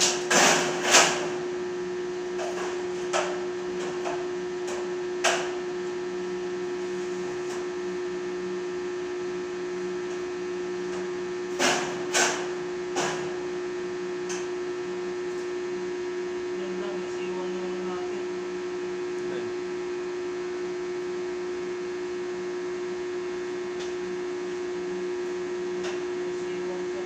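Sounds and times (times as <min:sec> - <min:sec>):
arc welder transformer hum: 0:00.0 - 0:27.0.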